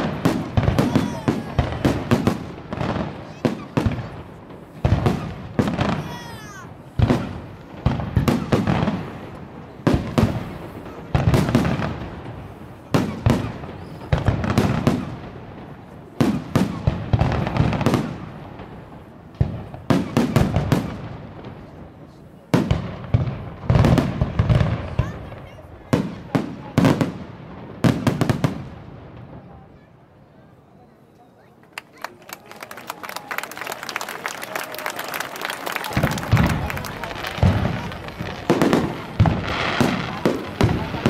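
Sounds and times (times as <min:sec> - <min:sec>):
fireworks bangs with echo: 0:00.0 - 0:29.8, 0:34.4 - 0:41.0.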